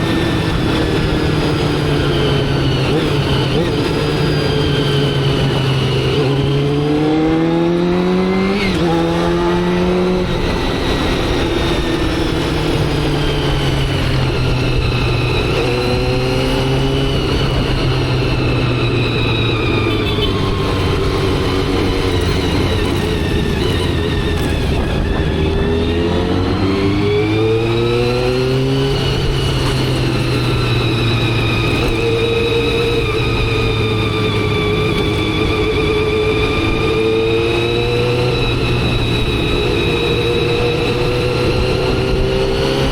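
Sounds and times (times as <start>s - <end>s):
motorcycle engine accelerating: 0.0s - 42.9s
wind and road noise: 0.0s - 42.9s.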